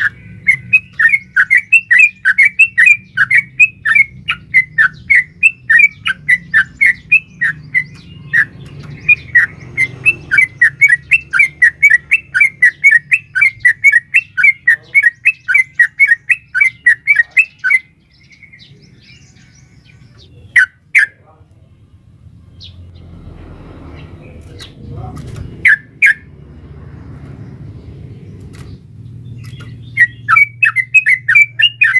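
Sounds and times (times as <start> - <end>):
bird chattering: 0.0 - 21.4, 23.9 - 26.4, 27.6 - 31.9.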